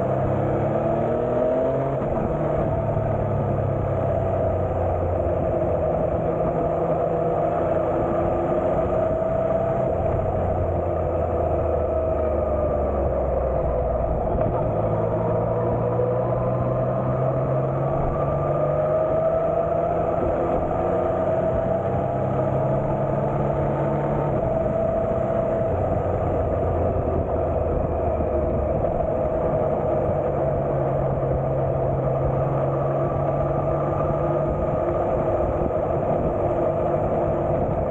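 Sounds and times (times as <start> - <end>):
road and wind noise: 0.0 - 37.9.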